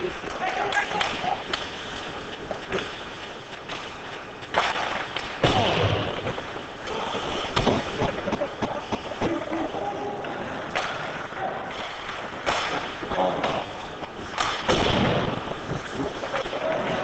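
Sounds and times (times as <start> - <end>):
hockey sticks and puck clacking: 0.0 - 17.0
noisy rink background: 0.0 - 17.0.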